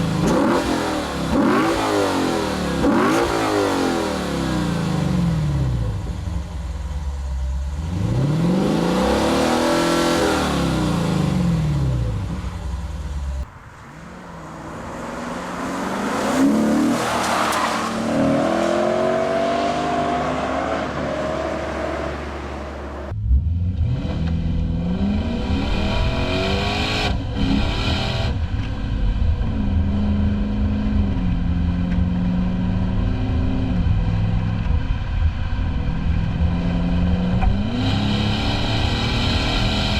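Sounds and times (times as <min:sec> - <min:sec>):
car engine revving and accelerating: 0:00.0 - 0:06.4, 0:07.7 - 0:39.9.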